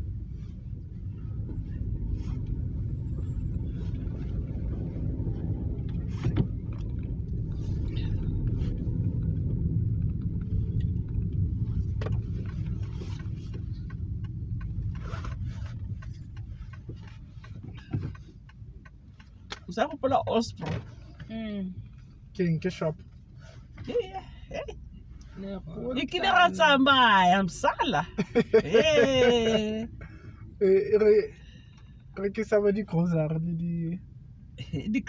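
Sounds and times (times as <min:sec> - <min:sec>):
car road rumble: 0:00.0 - 0:35.0.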